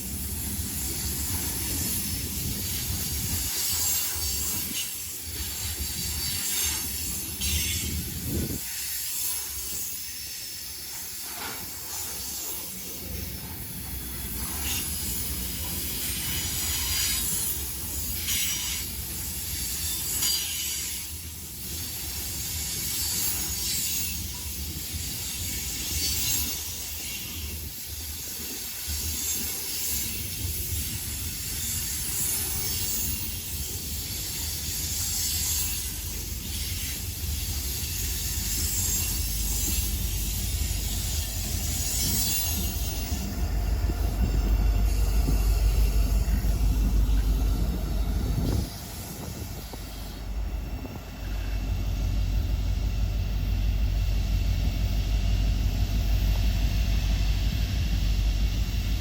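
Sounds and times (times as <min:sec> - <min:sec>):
freight train rumbling: 0:00.0 - 0:59.0
wheels hissing on rails: 0:00.0 - 0:59.0.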